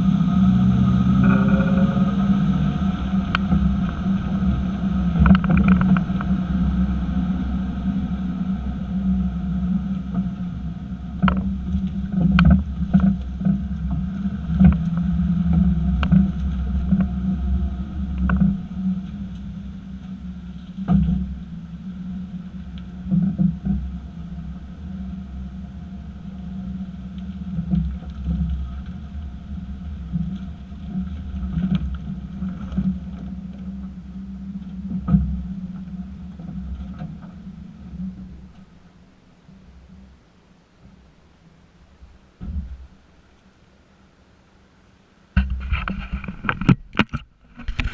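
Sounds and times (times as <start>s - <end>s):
moving truck drone: 0.0s - 40.7s.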